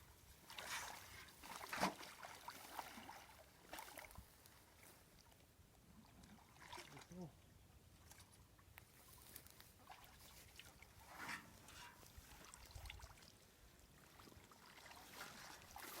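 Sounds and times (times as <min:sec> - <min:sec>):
shallow water sloshing: 0:00.2 - 0:05.2, 0:08.0 - 0:16.0.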